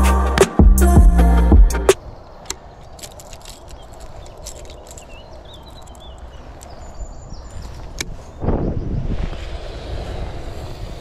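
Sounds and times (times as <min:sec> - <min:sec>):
wind buffeting microphone: 0:02.0 - 0:11.0.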